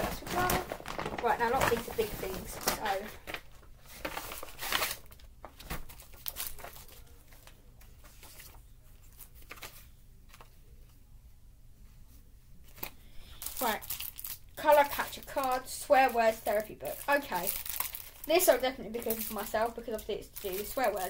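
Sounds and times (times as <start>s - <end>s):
paper tearing and rustling: 0.0s - 9.9s, 12.7s - 21.0s.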